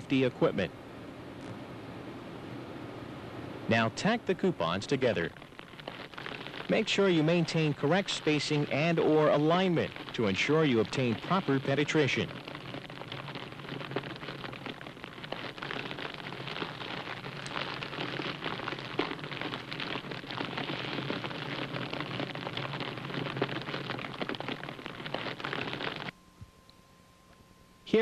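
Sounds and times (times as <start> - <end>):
welding arc crackling hiss: 3.7 - 26.2.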